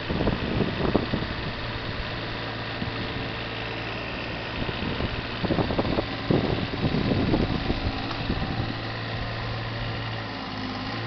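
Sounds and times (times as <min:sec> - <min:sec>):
digger engine running: 0:00.0 - 0:11.0.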